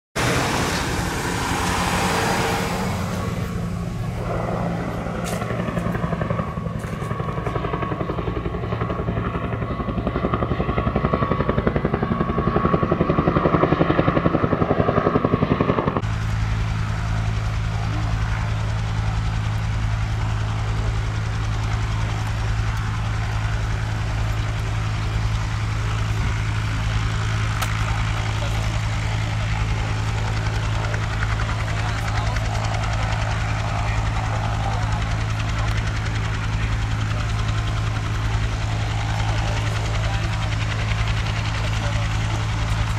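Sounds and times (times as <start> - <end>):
helicopter rotor beat: 0.2 - 42.9
low engine hum: 0.2 - 42.9.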